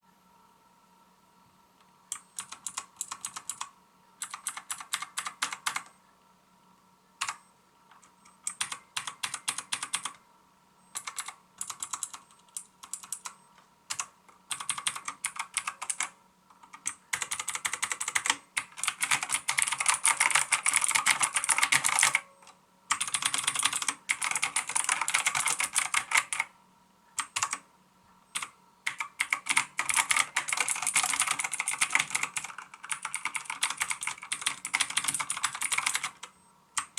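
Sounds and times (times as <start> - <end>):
mechanical keyboard typing: 2.1 - 5.9, 7.2 - 10.2, 10.9 - 22.3, 22.9 - 26.5, 27.2 - 27.6, 28.4 - 36.9.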